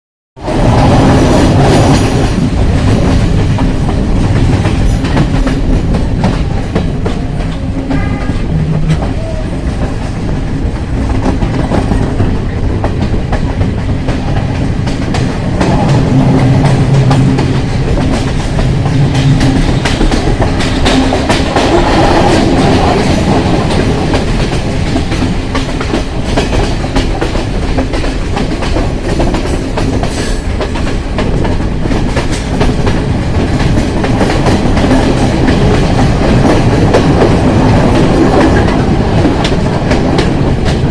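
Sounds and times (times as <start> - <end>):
train rumbling along track: 0.4 - 40.9.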